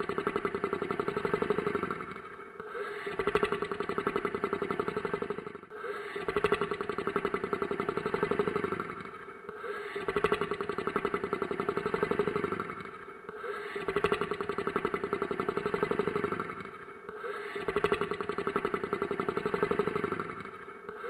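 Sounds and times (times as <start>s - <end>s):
monster snoring: 0.1s - 21.0s.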